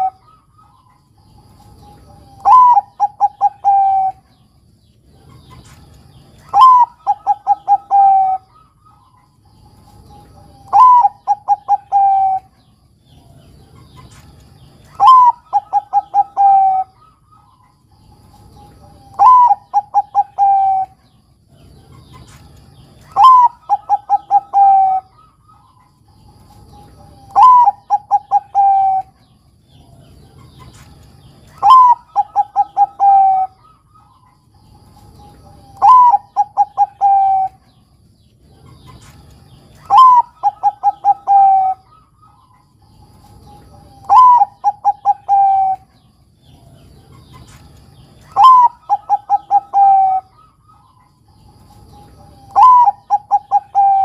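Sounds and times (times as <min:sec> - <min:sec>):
dove cooing: 0:00.0 - 0:04.5, 0:05.1 - 0:54.0.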